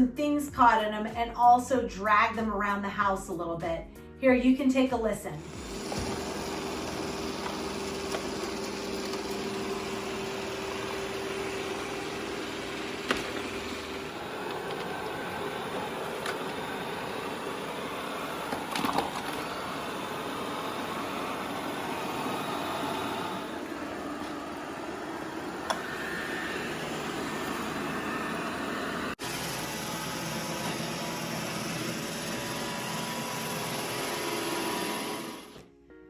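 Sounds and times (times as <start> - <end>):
robot vacuum whirring: 5.4 - 35.7.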